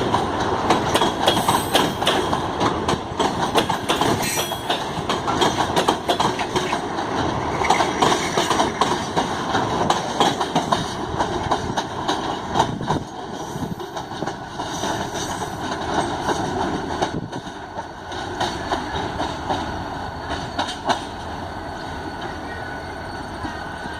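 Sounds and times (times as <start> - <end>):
train wheels clattering over rail joints: 0.0 - 22.5
train rumble: 0.0 - 23.9.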